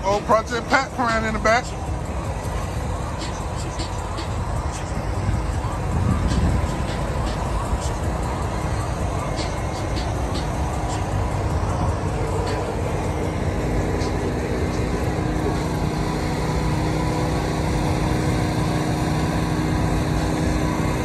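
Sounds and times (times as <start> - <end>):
constant hum: 0.0 - 21.0.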